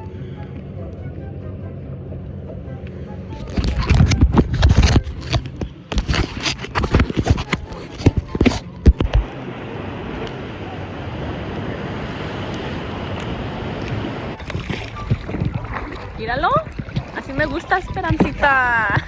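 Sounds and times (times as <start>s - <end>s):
rush of wind and ocean water: 0.0s - 19.0s
wind buffeting microphone: 3.5s - 19.0s.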